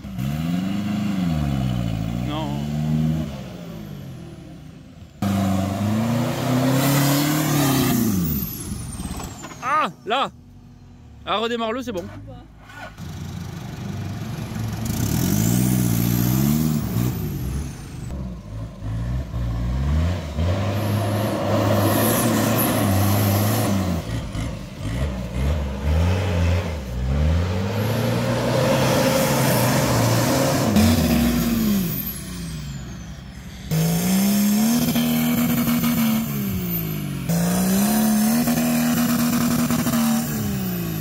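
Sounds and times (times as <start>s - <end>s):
off-road engines revving: 0.0s - 10.3s, 11.3s - 41.0s.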